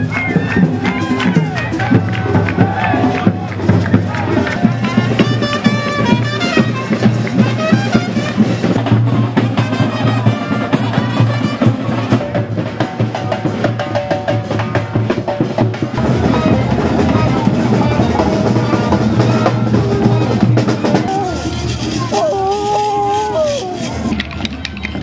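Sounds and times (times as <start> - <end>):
parade drums and percussion: 0.0 - 25.0.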